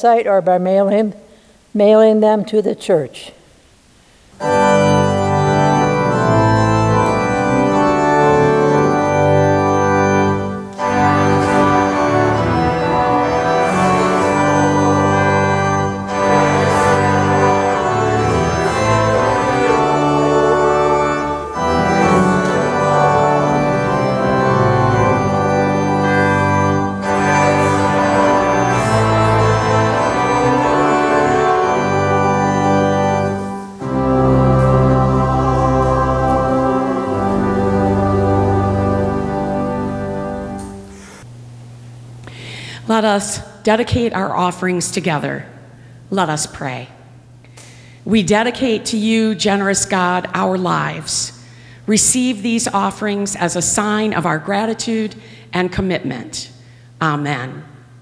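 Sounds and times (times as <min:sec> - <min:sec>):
organ chords: 0:04.2 - 0:55.4.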